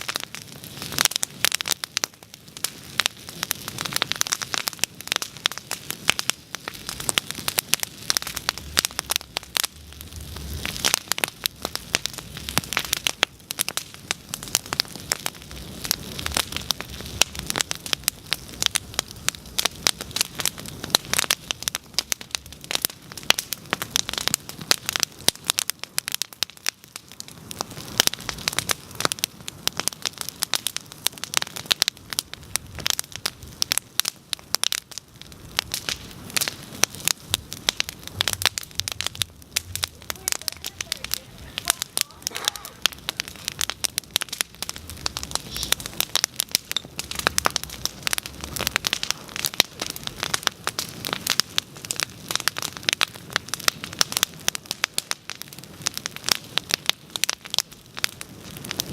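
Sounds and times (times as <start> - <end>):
bonfire crackling: 0.0 - 58.9.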